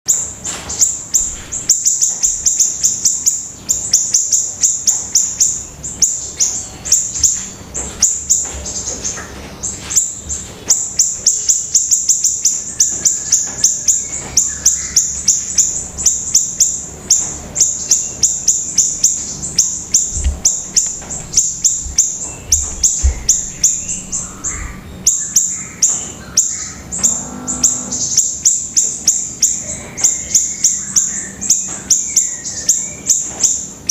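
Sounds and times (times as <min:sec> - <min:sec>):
songbird chirping: 0:00.1 - 0:33.9.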